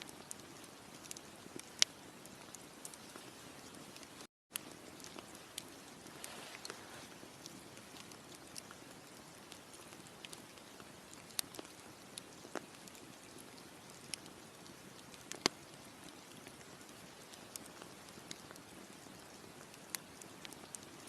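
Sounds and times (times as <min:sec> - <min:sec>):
campfire crackling: 0:00.0 - 0:21.0
faint steady hiss: 0:00.0 - 0:21.0.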